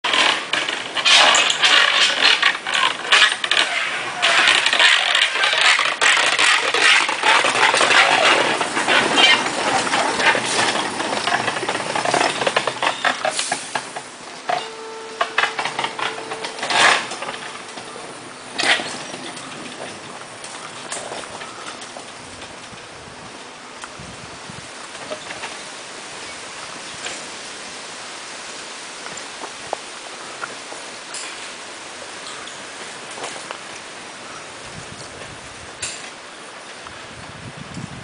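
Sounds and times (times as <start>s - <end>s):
train wheels clattering on track: 0.0s - 27.6s, 29.0s - 37.1s.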